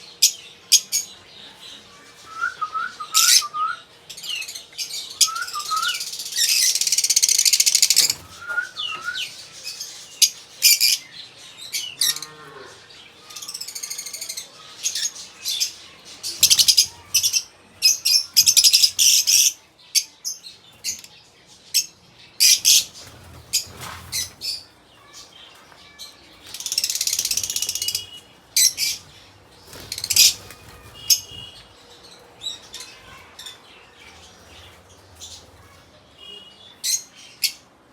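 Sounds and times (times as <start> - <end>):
lovebirds chirping and screeching: 0.0 - 37.8.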